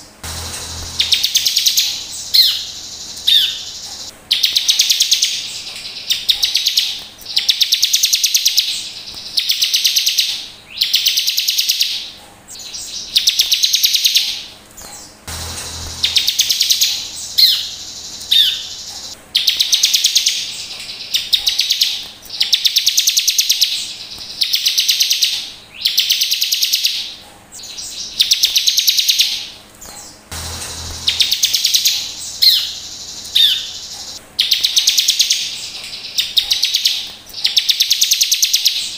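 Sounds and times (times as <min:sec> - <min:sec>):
bird calling with high trills: 0:00.8 - 0:15.2, 0:15.8 - 0:30.2, 0:30.9 - 0:38.9.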